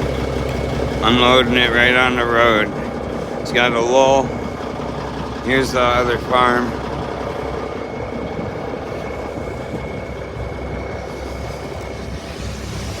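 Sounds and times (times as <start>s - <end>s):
faint high whine: 0.0s - 13.0s
heavy vehicle engine running: 0.0s - 13.0s.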